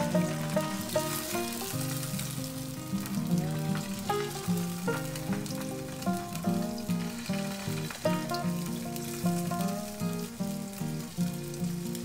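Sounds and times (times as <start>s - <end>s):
background music: 0.0s - 10.3s
fish sizzling in oil: 0.0s - 12.0s.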